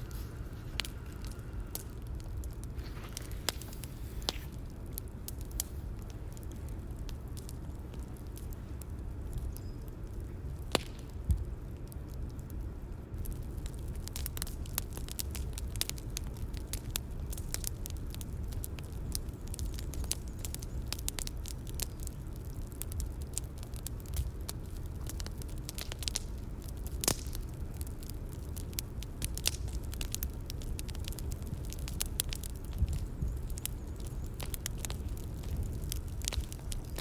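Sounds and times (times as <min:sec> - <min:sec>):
bonfire rumbling: 0:00.0 - 0:37.0
fire popping and crackling: 0:00.0 - 0:37.0.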